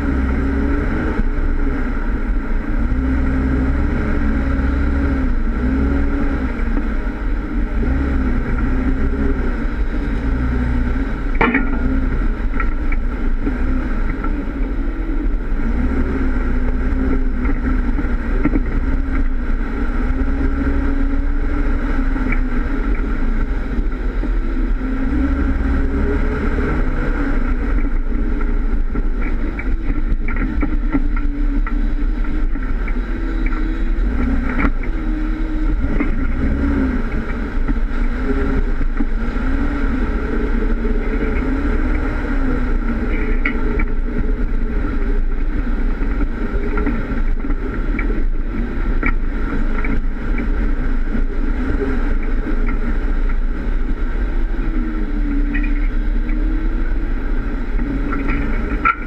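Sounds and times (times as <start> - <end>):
off-road vehicle engine labouring: 0.0 - 59.0.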